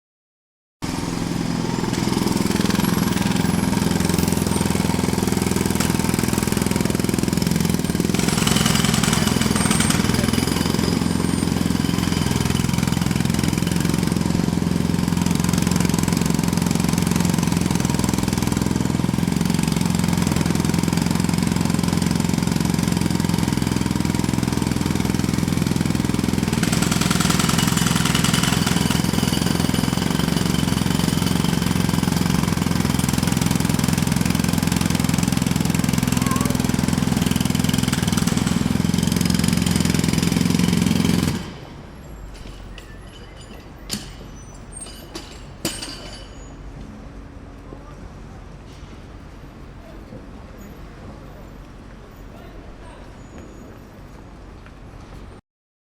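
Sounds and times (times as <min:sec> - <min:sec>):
jackhammer hammering: 0:00.8 - 0:41.8, 0:42.4 - 0:46.6.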